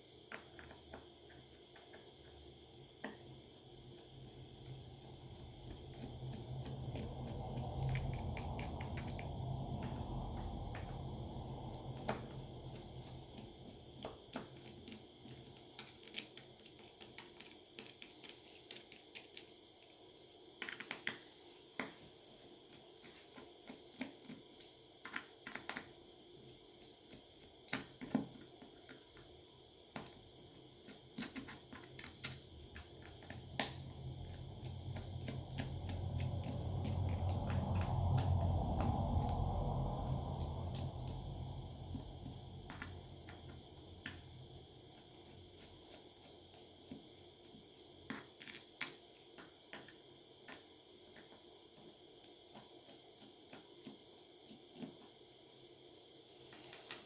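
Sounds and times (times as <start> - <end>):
low steady hum: 0.0 - 19.9, 21.3 - 57.0.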